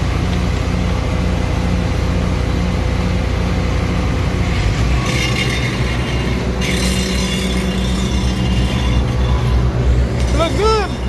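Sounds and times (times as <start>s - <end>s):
large engine throbbing drone: 0.0s - 11.0s.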